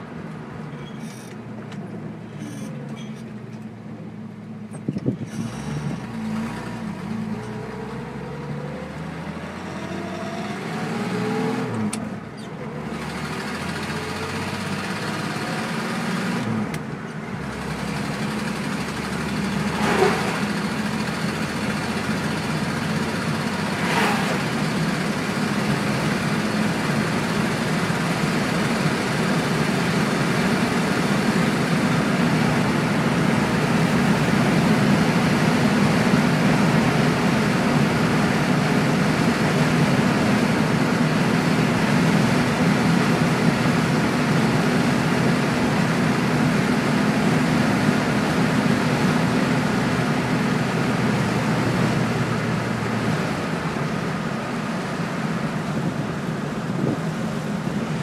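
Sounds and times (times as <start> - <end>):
car engine running: 0.0 - 58.0
road and wind noise: 0.0 - 58.0.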